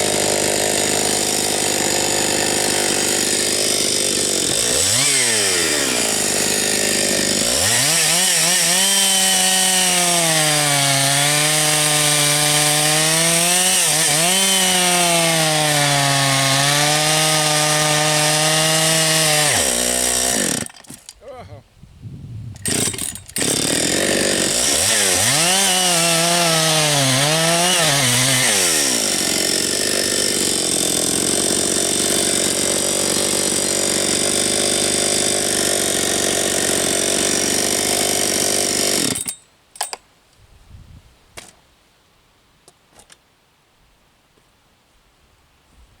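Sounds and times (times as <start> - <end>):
chainsaw cutting log: 0.0 - 21.4, 22.5 - 39.4.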